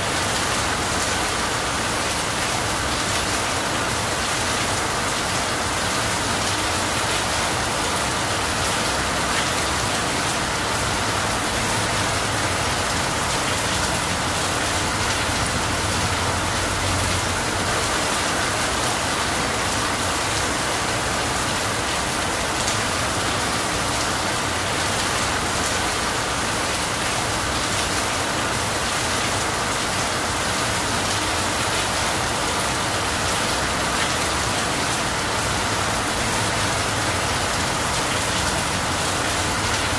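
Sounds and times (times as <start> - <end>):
rain on leaves and roof: 0.0 - 39.9.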